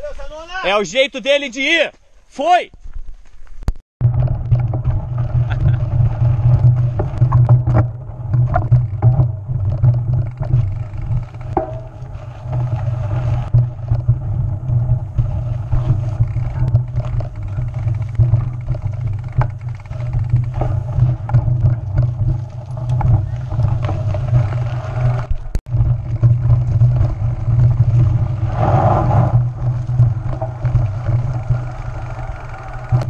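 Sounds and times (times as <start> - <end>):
bike rattling over rough ground: 2.9 - 33.0.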